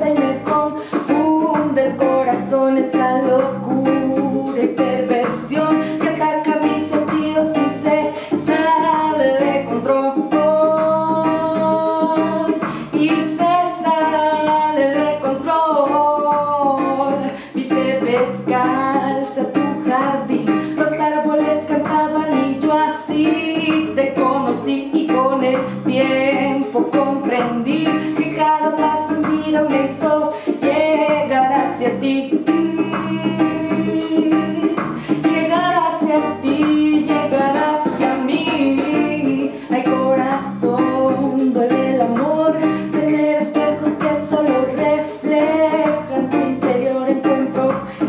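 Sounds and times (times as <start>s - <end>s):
hip hop reggae backing track: 0.0s - 48.0s
woman singing: 0.0s - 48.0s.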